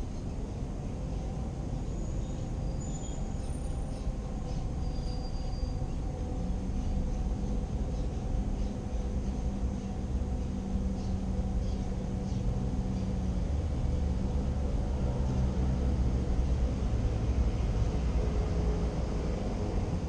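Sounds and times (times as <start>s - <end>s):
distant road traffic rumble: 0.0s - 20.0s
low steady hum: 0.0s - 20.0s.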